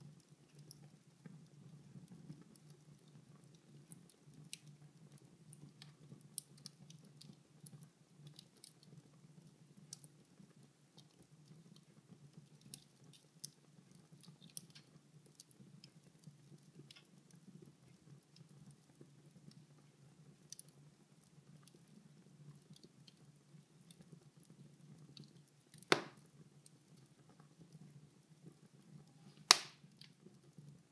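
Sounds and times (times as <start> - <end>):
fire crackling in fireplace: 0.0 - 30.9.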